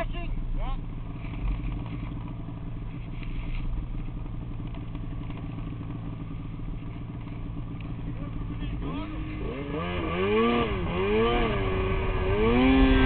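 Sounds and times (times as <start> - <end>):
snowmobile engine idling: 0.0 - 13.0.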